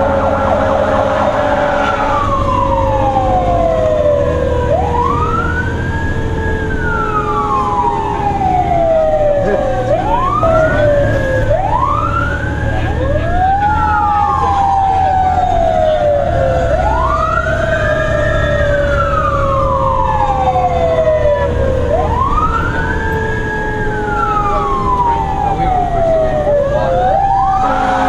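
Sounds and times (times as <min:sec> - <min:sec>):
fire engine siren wailing: 0:00.0 - 0:28.0
low engine rumble: 0:00.0 - 0:28.0
low falling siren tone: 0:00.0 - 0:28.0.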